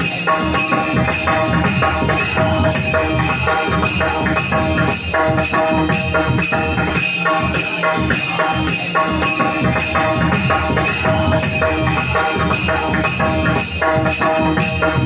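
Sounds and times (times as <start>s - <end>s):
hand cymbals struck rhythmically: 0.0s - 15.0s.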